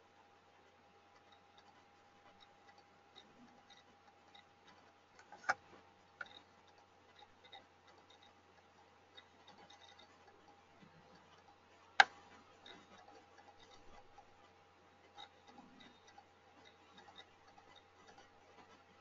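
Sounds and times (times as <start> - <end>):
faint scattered ticking: 0.0 - 19.0
faint steady hum: 0.0 - 19.0.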